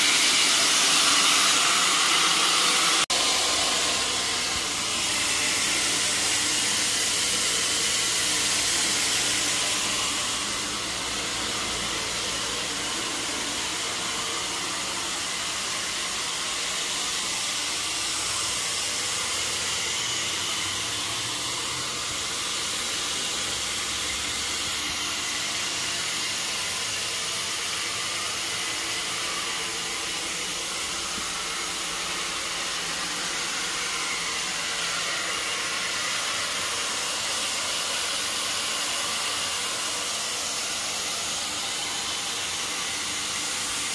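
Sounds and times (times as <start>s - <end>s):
carpet cleaner rushing air: 0.0s - 43.9s.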